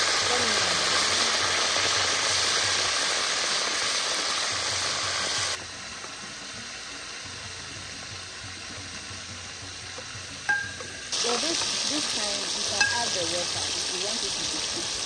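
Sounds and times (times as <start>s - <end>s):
slices sizzling in hot oil: 0.0s - 15.0s.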